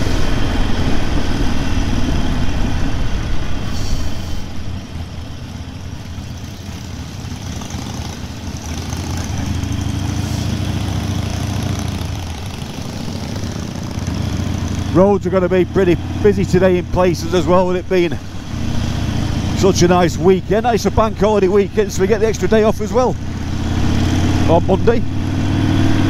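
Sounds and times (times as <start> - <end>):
wind and road noise: 0.0 - 26.0
motorcycle engine running: 4.4 - 26.0.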